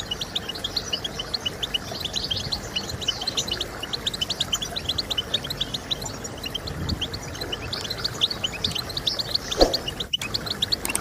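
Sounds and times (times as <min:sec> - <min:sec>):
finch twittering song: 0:00.0 - 0:11.0.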